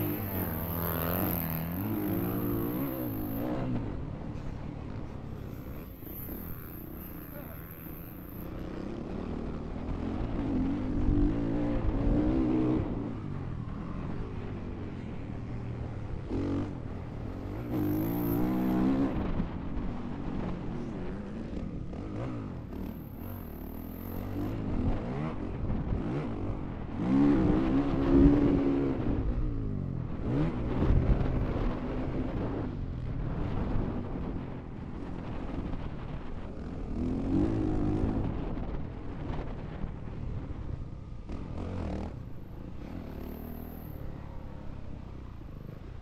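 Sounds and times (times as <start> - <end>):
motorcycle engine under throttle: 0.0 - 46.0.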